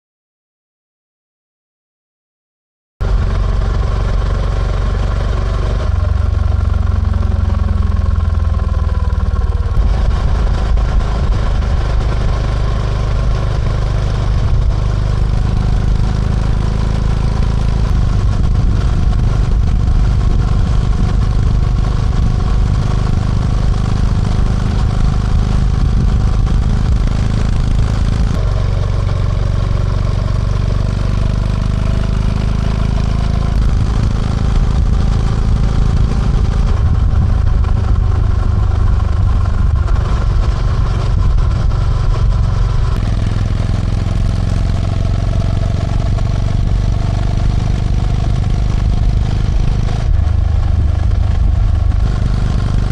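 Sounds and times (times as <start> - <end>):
motorcycle engine running: 3.0 - 52.9.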